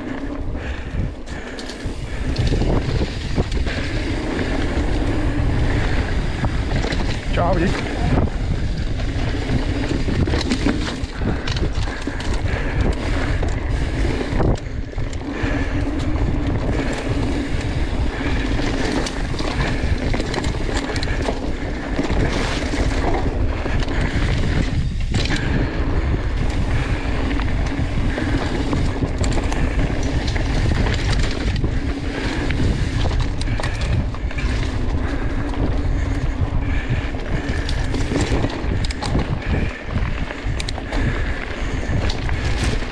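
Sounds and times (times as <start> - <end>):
bike tyre and frame rumble: 0.0 - 42.9
wind on microphone: 0.0 - 42.9.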